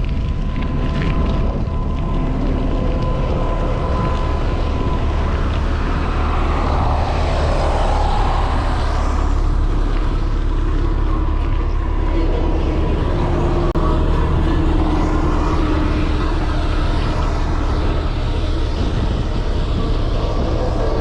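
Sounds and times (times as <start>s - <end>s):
city street traffic: 0.0s - 21.0s
wind rumble on microphone: 0.0s - 21.0s
vehicle passing by: 3.4s - 21.0s.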